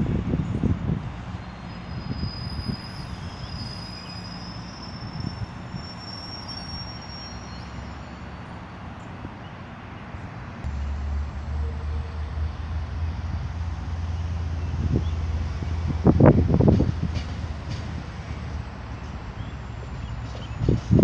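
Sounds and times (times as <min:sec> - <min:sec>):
wheels squealing on rails: 0:00.0 - 0:10.3, 0:11.0 - 0:21.0
train rumbling on track: 0:00.0 - 0:21.0.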